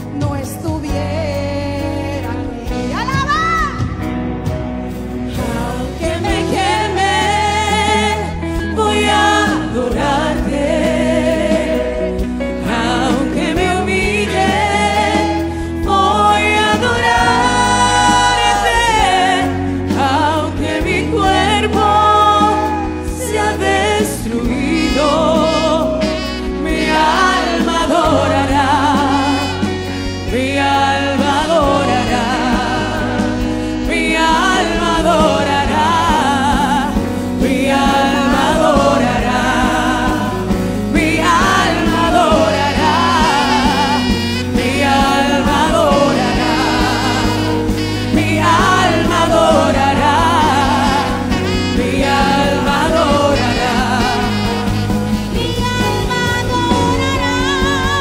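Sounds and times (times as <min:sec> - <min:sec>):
women singing gospel: 0:00.0 - 0:03.8, 0:05.2 - 0:58.0
electric bass: 0:00.0 - 0:58.0
guitars: 0:00.0 - 0:58.0
keyboard: 0:00.0 - 0:58.0.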